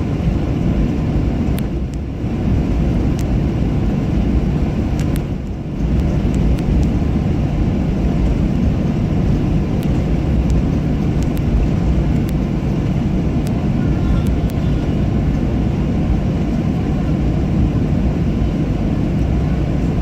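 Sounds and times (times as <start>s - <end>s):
low jet engine rumble: 0.0s - 20.0s.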